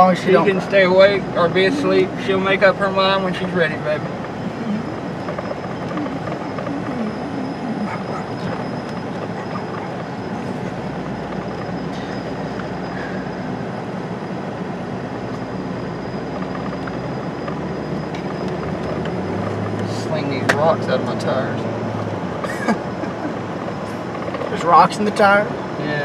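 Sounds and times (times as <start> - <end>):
road and tyre noise in car: 0.0 - 26.0.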